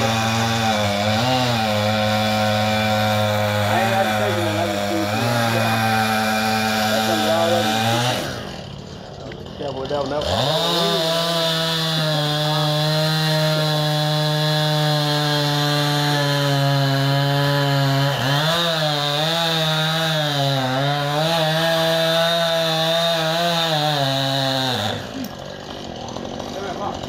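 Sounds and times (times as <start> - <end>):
chainsaw cutting wood at full throttle: 0.0 - 27.0.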